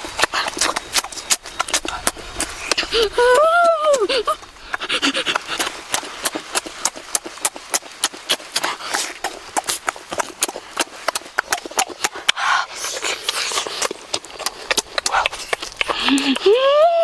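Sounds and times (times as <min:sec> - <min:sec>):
wet chewing and lip-smacking: 0:00.0 - 0:17.0.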